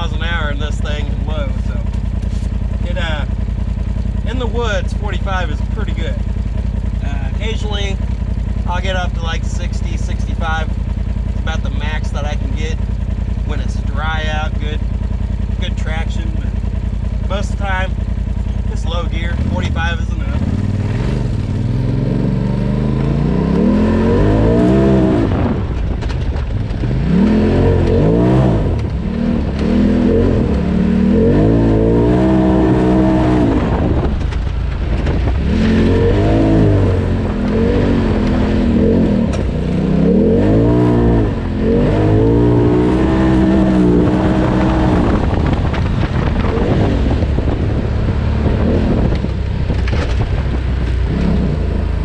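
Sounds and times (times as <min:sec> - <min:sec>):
engine revving: 0:00.0 - 0:52.0.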